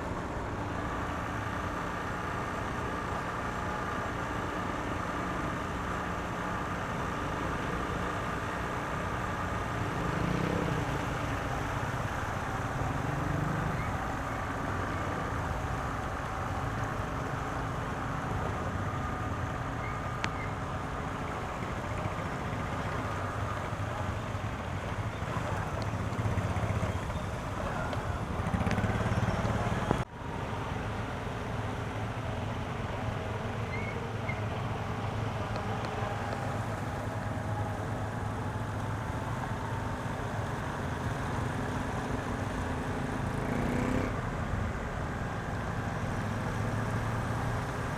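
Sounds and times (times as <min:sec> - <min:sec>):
motor vehicle engine: 0:00.0 - 0:47.9
traffic noise: 0:00.0 - 0:47.9.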